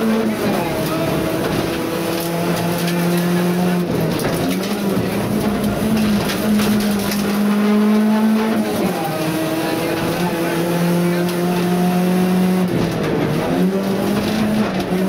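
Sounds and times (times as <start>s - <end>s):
rally car engine at high revs: 0.0s - 15.0s
road and cabin rattle: 0.0s - 15.0s.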